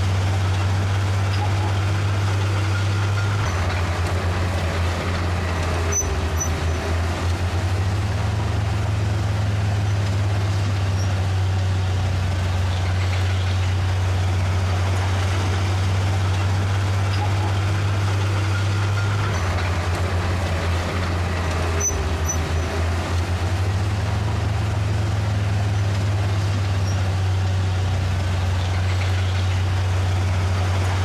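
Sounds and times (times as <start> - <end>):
heavy diesel engine droning: 0.0 - 31.0.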